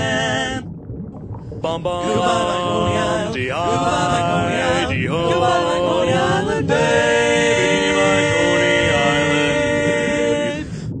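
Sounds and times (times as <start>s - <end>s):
a cappella quartet singing: 0.0s - 0.6s, 1.6s - 10.8s.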